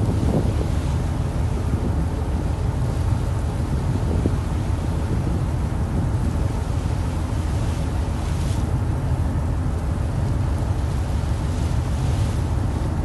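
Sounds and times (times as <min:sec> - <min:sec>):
seawater rushing: 0:00.0 - 0:13.0
wind buffeting microphone: 0:00.0 - 0:13.0.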